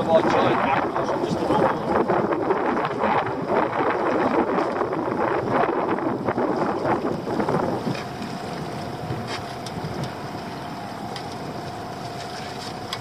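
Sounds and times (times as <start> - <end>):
faint steady hum: 0.0 - 13.0
wind buffeting microphone: 0.0 - 13.0.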